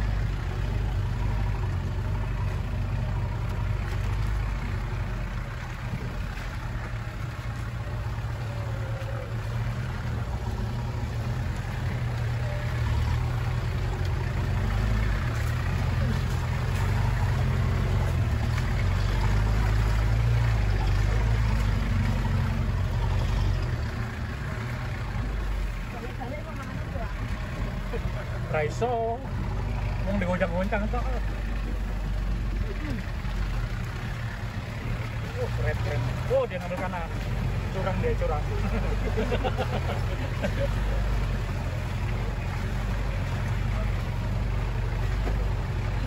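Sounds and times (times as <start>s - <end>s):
vehicle engine rumbling off-road: 0.0s - 46.0s.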